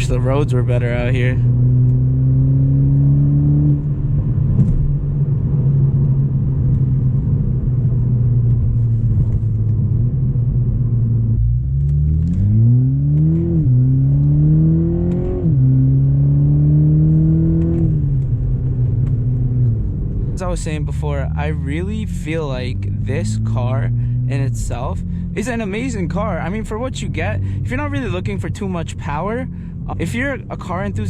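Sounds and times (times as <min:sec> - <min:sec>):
turbocharged car engine: 0:00.0 - 0:31.0.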